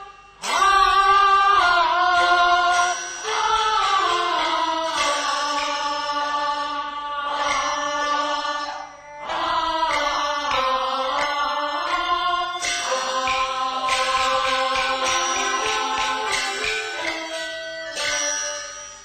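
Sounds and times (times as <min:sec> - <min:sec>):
opera singing with accompaniment: 0:00.0 - 0:17.2.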